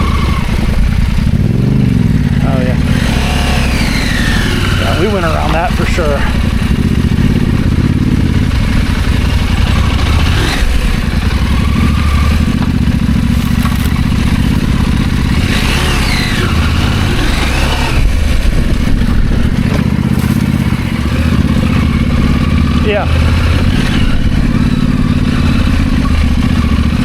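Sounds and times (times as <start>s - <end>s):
clatter: 0.0s - 27.0s
motorcycle engine running: 0.0s - 27.0s.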